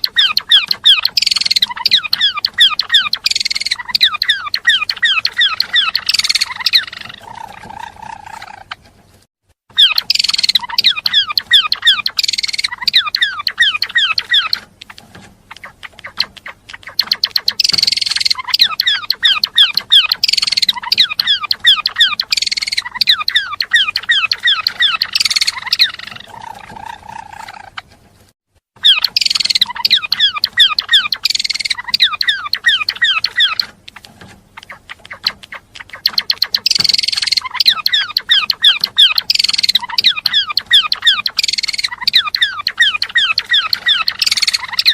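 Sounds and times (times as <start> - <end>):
songbird singing rapid chirps: 0.0 - 8.9, 9.7 - 28.0, 28.8 - 44.9.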